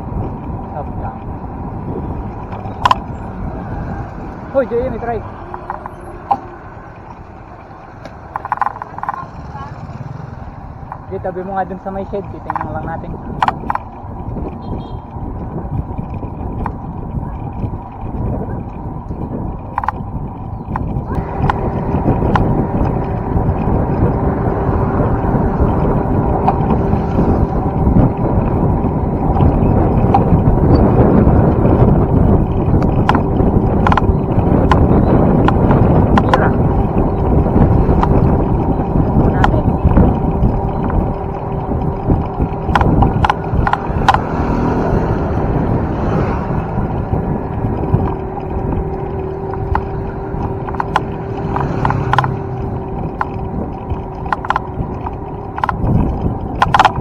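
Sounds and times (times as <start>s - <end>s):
bicycle tyre road noise: 0.0s - 57.0s
wind rumbling on microphone: 0.0s - 57.0s.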